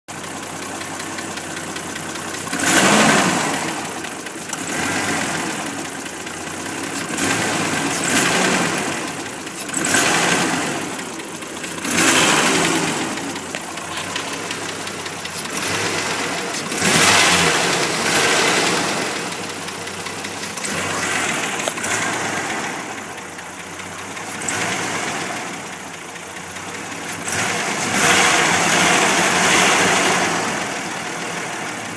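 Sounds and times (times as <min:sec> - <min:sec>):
car engine running unevenly: 0:00.1 - 0:31.9.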